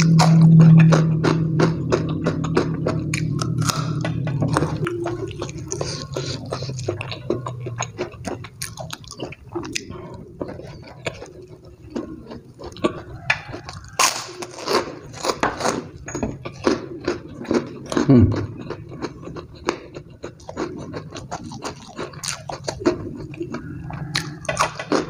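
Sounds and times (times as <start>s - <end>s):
crunching of crisp fried food: 0.0s - 25.0s
low steady hum: 0.0s - 25.0s.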